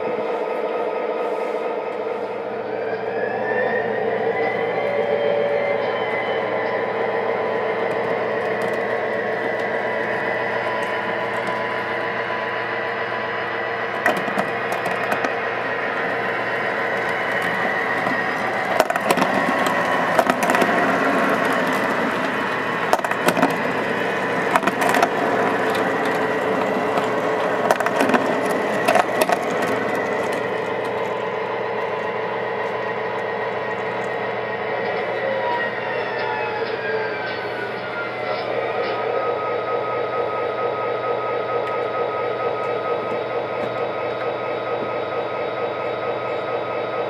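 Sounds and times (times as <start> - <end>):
model train cars rolling on track: 0.0 - 47.0.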